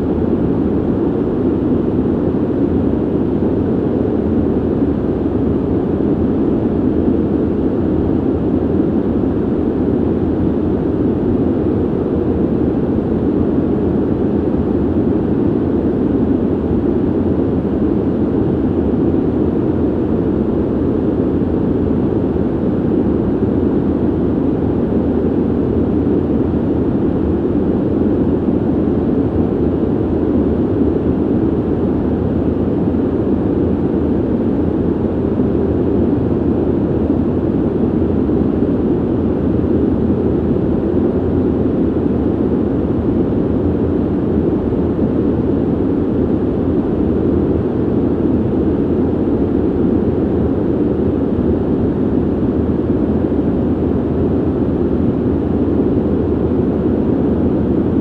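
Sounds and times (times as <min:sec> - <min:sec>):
air rushing through ventilation: 0:00.0 - 0:58.0.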